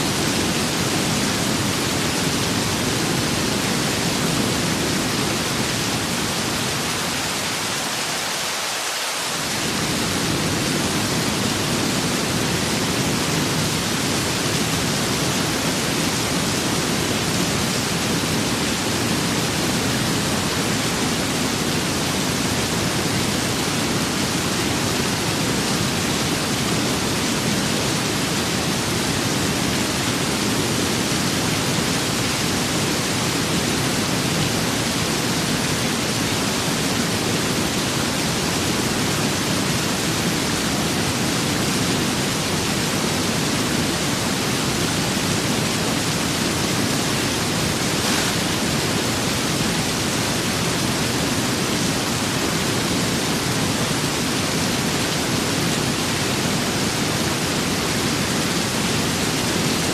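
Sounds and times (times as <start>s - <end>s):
heavy rain: 0.0s - 59.9s
wind: 0.0s - 59.9s.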